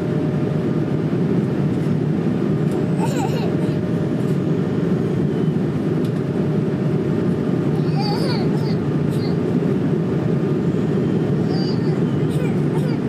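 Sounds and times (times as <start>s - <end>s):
jet engine noise in cabin: 0.0s - 13.0s.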